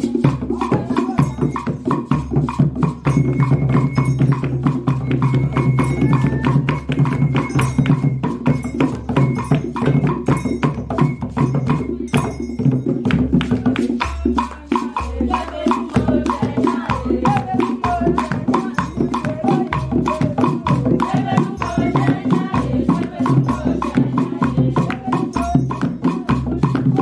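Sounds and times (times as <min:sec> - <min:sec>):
clacking percussion: 0:00.0 - 0:27.0
hand drums: 0:00.0 - 0:27.0.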